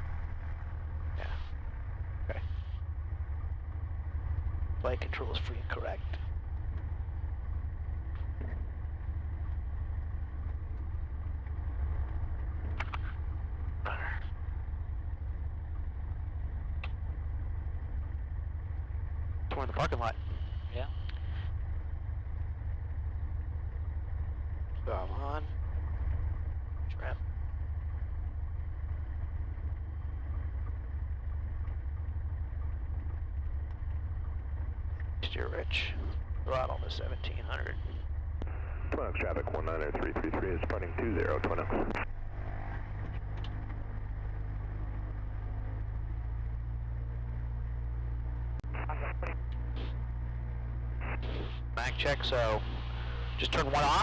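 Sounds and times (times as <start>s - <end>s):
airplane engine idling: 0.0s - 54.0s.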